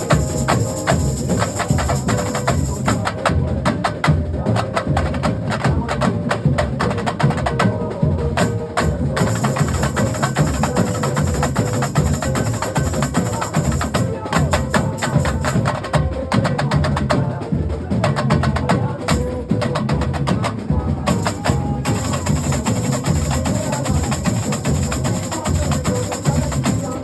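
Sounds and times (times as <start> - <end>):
percussion section fast rhythm: 0.0 - 27.0.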